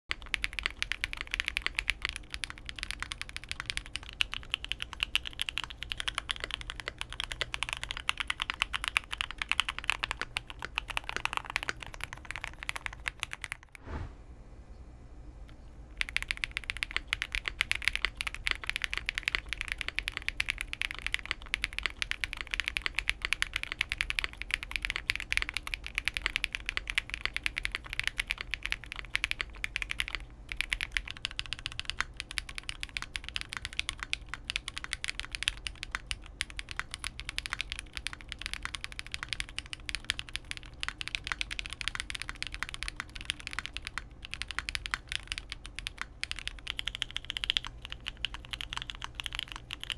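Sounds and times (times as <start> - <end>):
fast mechanical keyboard typing: 0.1 - 13.8, 15.9 - 49.9.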